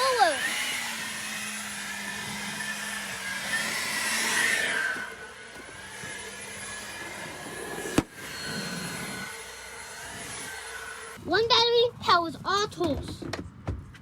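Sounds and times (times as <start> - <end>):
leaf blower running: 0.0 - 11.3.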